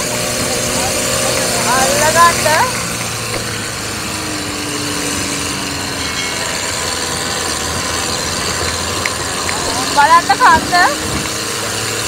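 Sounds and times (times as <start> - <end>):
jeep engine running: 0.0 - 12.0
road noise rumble: 0.0 - 12.0.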